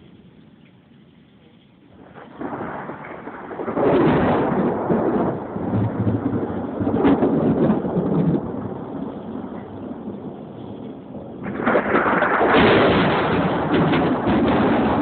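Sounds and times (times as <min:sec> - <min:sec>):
rolling thunder: 0:01.9 - 0:15.0.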